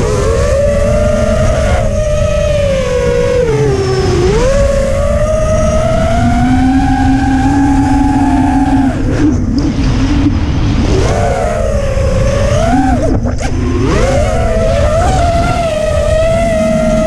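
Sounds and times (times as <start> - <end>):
drone motors whining: 0.0 - 17.0
wind rushing over microphone: 0.0 - 17.0.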